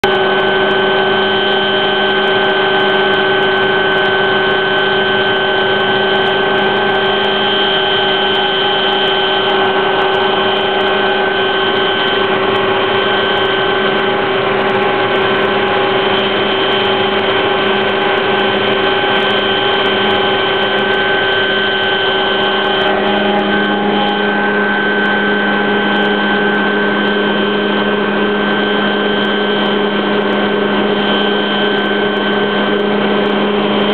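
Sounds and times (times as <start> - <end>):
helicopter engine and rotors: 0.0 - 33.9
high whine: 0.0 - 33.9.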